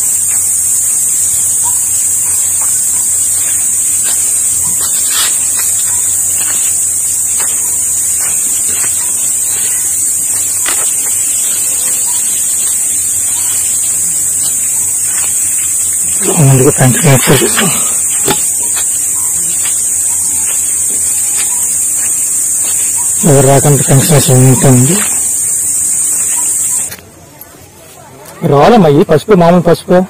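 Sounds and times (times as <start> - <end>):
cicadas droning: 0.0 - 30.0
footsteps on sandy path: 0.1 - 27.1.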